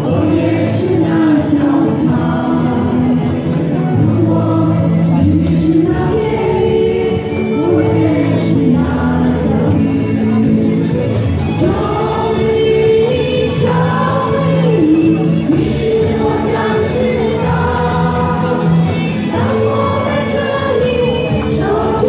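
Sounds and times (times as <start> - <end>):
choir singing in unison: 0.0 - 10.4, 11.6 - 22.0
sustained musical accompaniment: 0.0 - 22.0.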